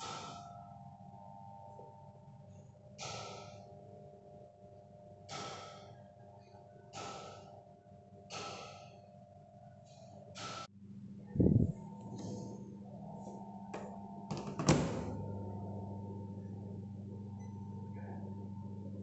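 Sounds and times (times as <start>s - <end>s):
machine low hum with held tones: 0.0s - 19.0s.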